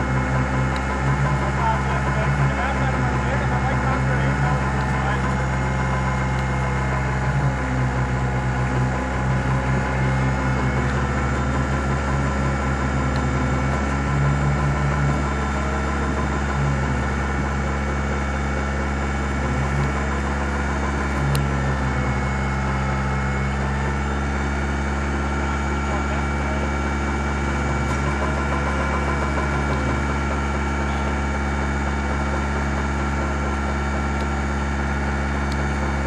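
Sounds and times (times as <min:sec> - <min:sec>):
winch engine humming: 0:00.0 - 0:36.0.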